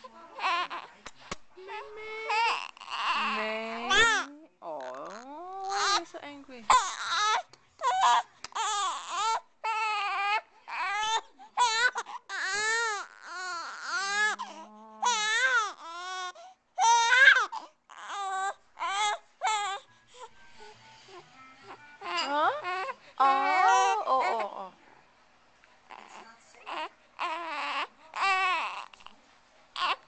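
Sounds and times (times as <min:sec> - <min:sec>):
baby crying: 0:00.4 - 0:00.9, 0:01.6 - 0:06.1, 0:06.7 - 0:19.9, 0:21.6 - 0:24.7, 0:25.9 - 0:29.1, 0:29.8 - 0:30.0.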